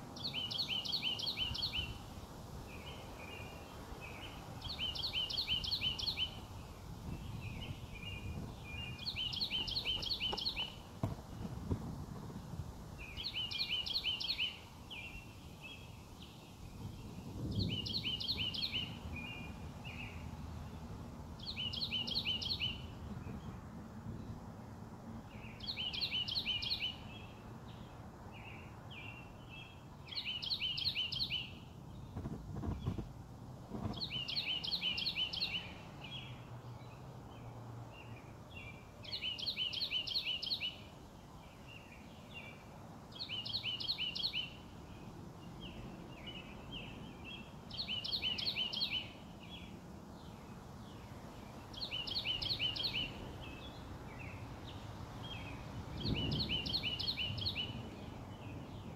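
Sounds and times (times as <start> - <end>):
outdoor background hiss: 0.0 - 58.9
songbird singing: 0.0 - 58.9.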